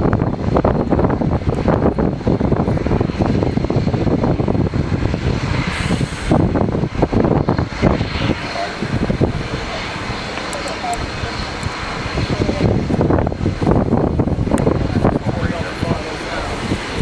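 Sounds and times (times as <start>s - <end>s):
jet engines running loudly: 0.0s - 17.0s.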